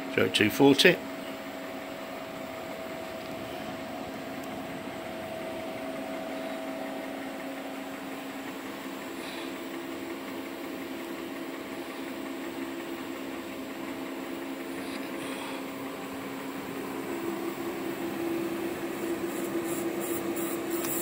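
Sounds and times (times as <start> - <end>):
welding machine humming: 1.6 - 21.0.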